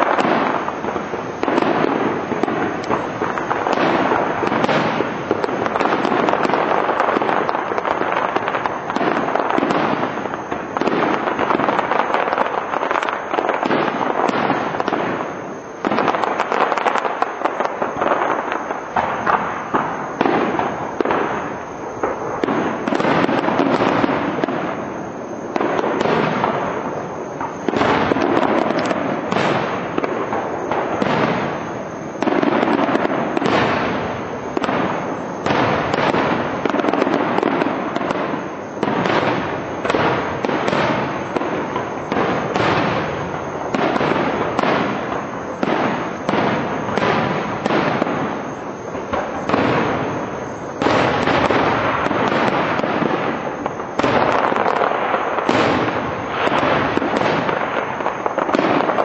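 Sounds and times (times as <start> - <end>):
firework shells bursting: 0.0 - 59.0.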